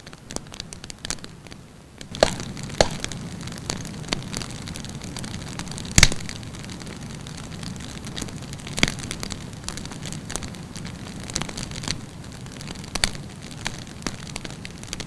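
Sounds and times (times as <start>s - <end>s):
campfire burning: 0.0s - 15.0s
fire crackles and pops: 0.0s - 15.0s.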